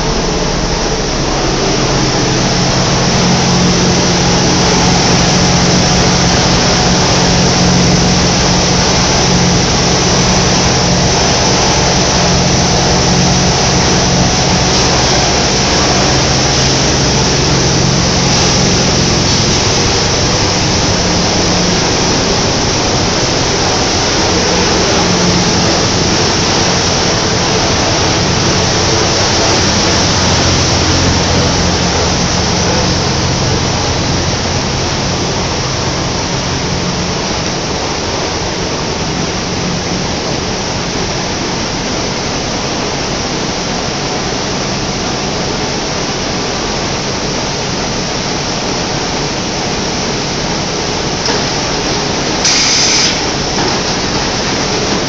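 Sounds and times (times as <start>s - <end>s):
machinery loud steady hiss: 0.0s - 55.0s
machinery low hum: 0.0s - 55.0s.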